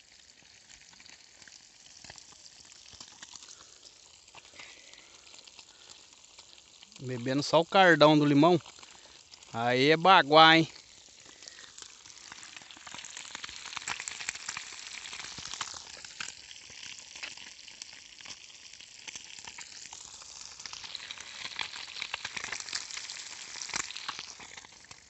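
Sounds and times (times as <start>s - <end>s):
fish frying in hot oil: 0.0s - 25.0s.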